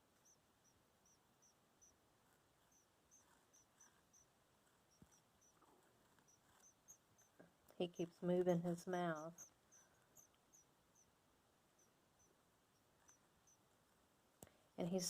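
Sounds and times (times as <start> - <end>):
faint cricket chirps: 0.0 - 15.0.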